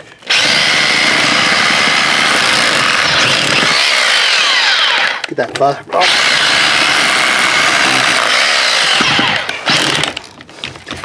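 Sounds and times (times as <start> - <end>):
hammer drill boring through concrete: 0.2 - 5.3, 6.0 - 10.3.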